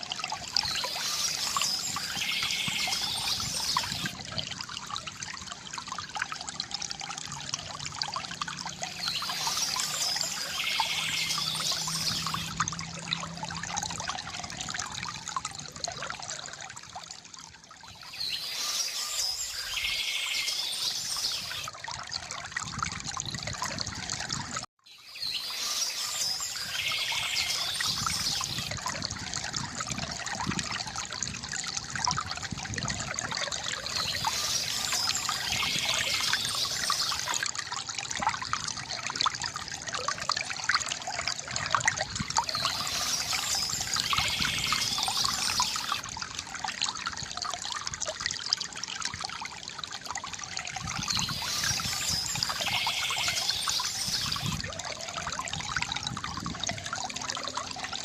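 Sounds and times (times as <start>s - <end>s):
river water gurgling: 0.0s - 58.0s.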